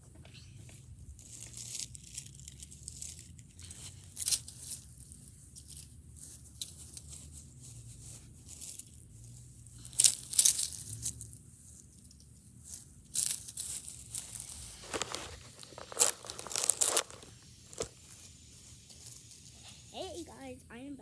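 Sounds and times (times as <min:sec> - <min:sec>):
dry crackling and rustling: 0:00.2 - 0:20.1.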